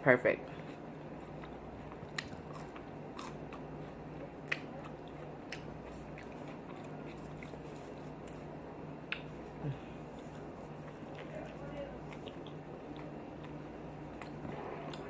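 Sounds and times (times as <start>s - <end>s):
faint steady hum: 0.0s - 15.0s
chewing and lip smacking: 0.5s - 15.0s.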